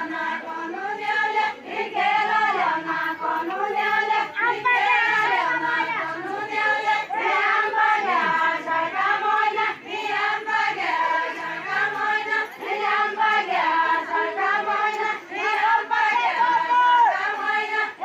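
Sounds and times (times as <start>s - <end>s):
women singing folk song in unison: 0.0s - 18.0s.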